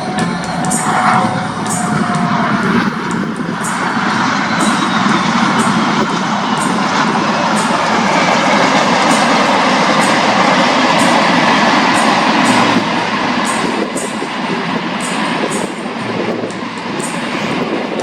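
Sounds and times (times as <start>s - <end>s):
train rumbling past: 0.0s - 18.0s
wheels clicking over rail joints: 0.0s - 18.0s.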